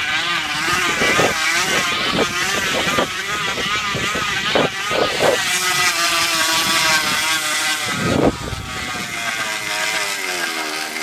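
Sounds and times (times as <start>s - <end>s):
bicycle buzzing like an engine: 0.0s - 11.0s.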